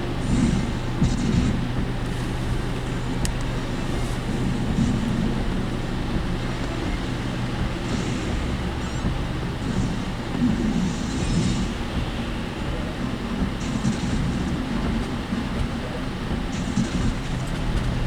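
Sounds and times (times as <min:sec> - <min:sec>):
vehicle body rattling: 0:00.0 - 0:18.0
vehicle engine and road rumble: 0:00.0 - 0:18.0.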